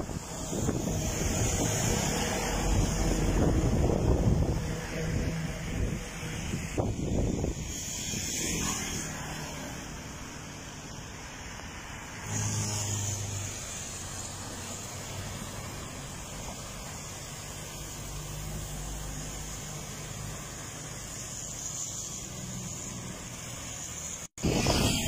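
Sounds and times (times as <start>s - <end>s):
motorbikes passing: 0.0s - 25.0s
tyres hissing on wet road: 0.0s - 25.0s.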